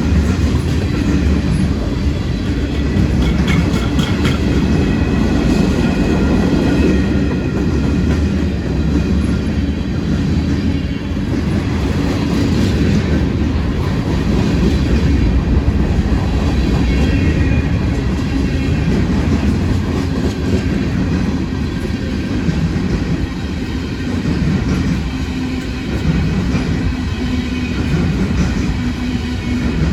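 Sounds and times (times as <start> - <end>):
freight train cars rolling on rails: 0.0 - 29.9.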